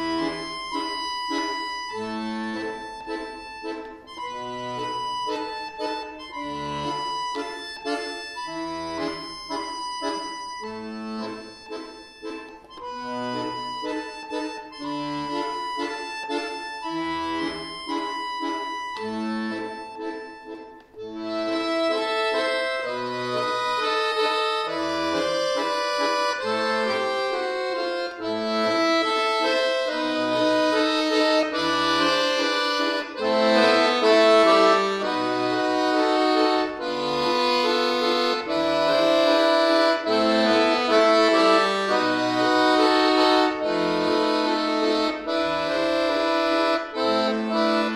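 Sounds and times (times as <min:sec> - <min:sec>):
button accordion playing solo: 0:00.0 - 0:47.9.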